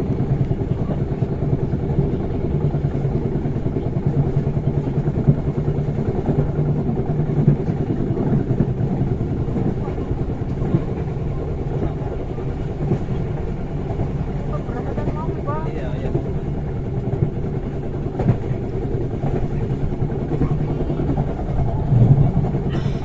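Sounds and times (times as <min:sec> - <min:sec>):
train wheels rumbling: 0:00.0 - 0:23.0.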